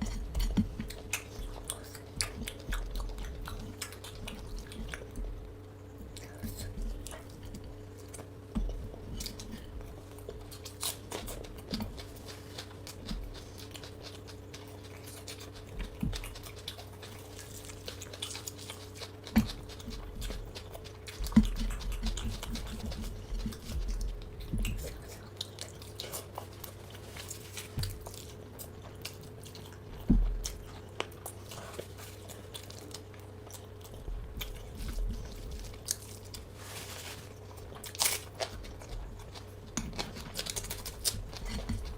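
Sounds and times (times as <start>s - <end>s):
faint steady hum: 0.0s - 41.9s
person chewing and biting: 0.0s - 41.9s.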